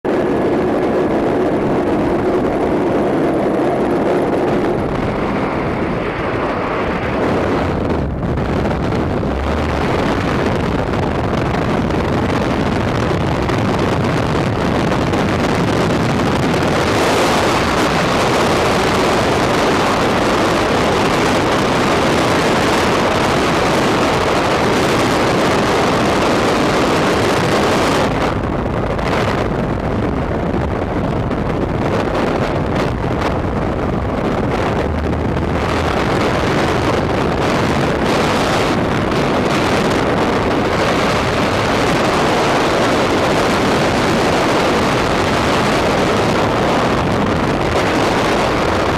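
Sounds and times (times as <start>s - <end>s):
aircraft engine drone: 0.0s - 48.9s
freefall wind rush: 0.0s - 48.9s.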